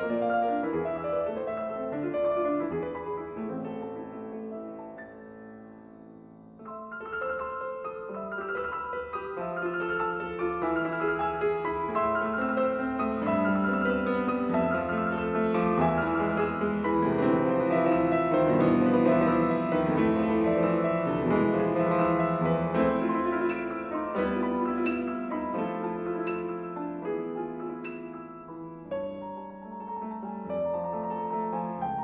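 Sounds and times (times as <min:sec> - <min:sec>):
grand piano playing classical piece: 0:00.0 - 0:32.0.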